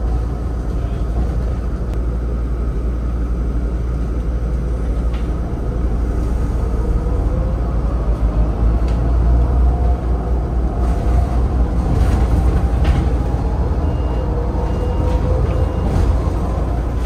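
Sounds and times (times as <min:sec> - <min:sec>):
bus road rumble: 0:00.0 - 0:17.0.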